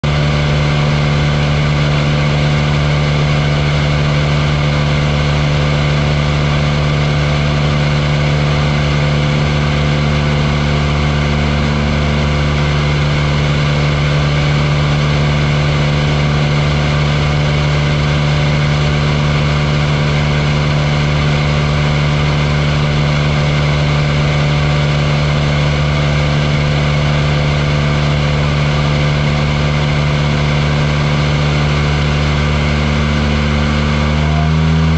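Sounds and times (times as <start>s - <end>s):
light aircraft engine droning: 0.0s - 34.9s.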